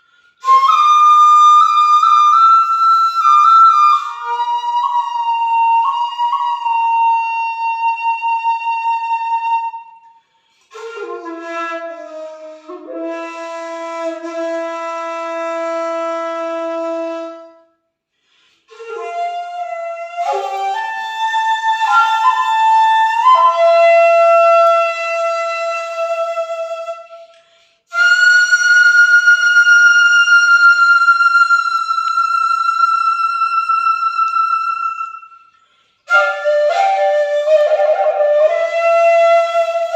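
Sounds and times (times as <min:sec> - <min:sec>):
bamboo flute long held notes: 0:00.0 - 0:17.8, 0:18.7 - 0:39.9.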